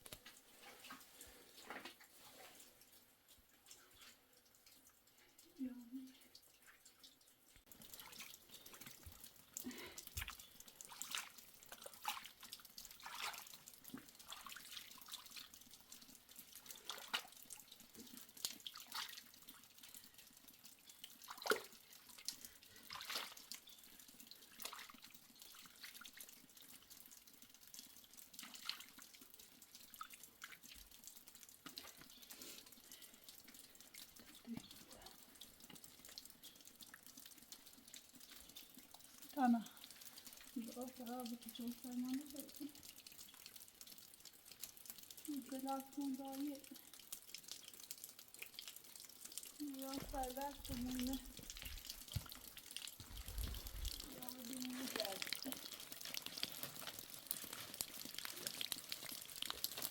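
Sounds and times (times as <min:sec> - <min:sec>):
water dripping and splashing: 0:00.0 - 0:59.9.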